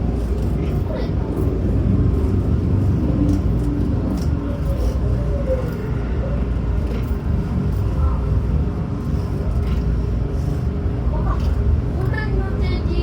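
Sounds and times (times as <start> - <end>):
electric train running rumble: 0.0 - 13.0.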